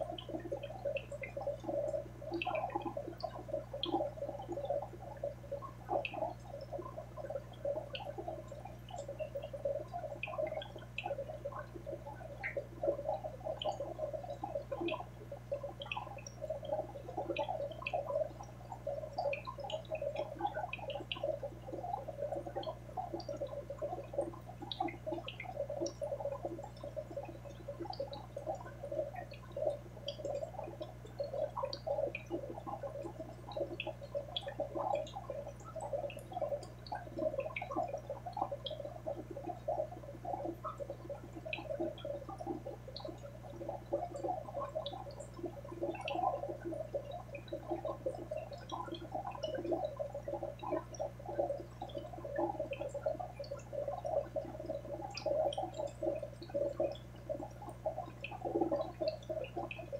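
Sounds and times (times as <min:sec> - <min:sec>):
aquarium pump hum: 0:00.0 - 0:59.9
aquarium water bubbling: 0:00.0 - 0:59.9
water drips: 0:00.0 - 0:59.9.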